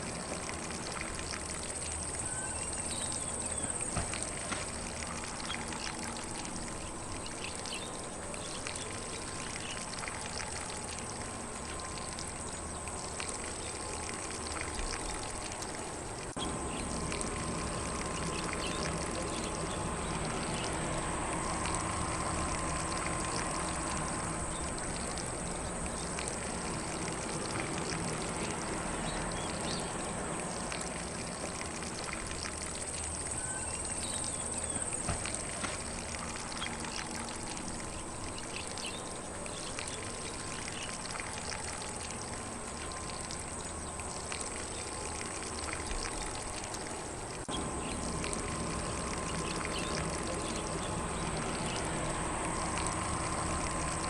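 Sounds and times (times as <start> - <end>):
sprinkler spraying water on grass: 0.0 - 54.0
faint birds chirping: 0.9 - 41.8, 42.4 - 53.0.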